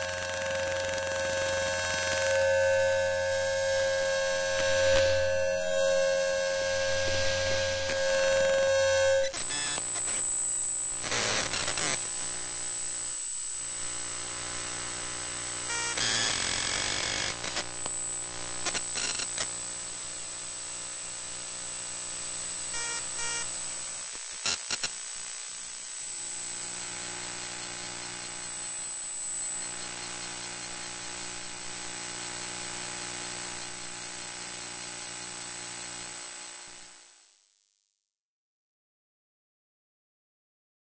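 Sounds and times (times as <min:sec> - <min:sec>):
electromagnetic hums and whine: 0:00.9 - 0:37.2
static bursts: 0:02.8 - 0:36.9
glitchy clicks: 0:02.8 - 0:37.1.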